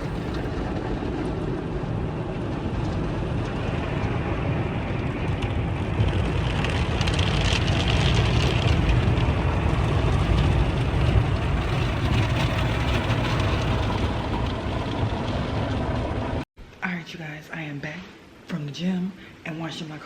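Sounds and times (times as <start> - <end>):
car wash machinery rumble: 0.0 - 16.5.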